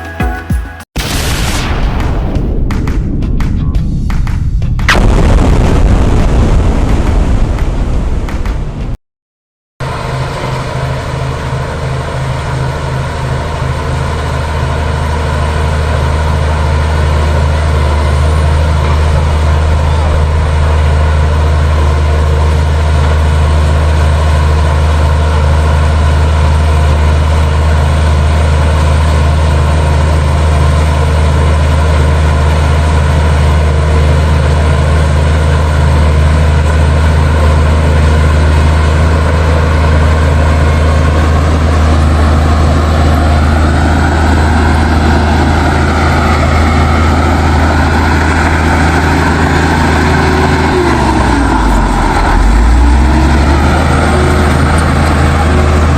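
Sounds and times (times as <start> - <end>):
bulldozer diesel engine running: 9.8 - 55.9
machine whine: 9.8 - 55.9.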